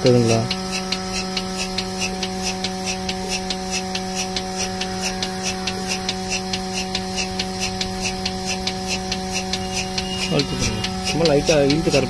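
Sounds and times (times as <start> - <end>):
milking machine running: 0.0 - 12.0.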